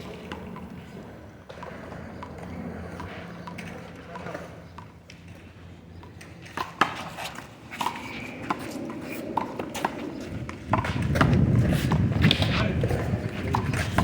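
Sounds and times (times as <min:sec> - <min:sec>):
handball slapping wall and pavement: 0:01.5 - 0:14.0.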